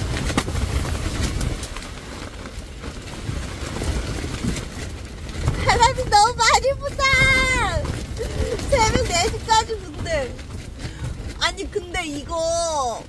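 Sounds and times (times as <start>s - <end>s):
nylon sleeping bag rustling: 0.0s - 13.0s
rain: 0.0s - 13.0s
strong wind buffeting a car: 0.0s - 13.0s.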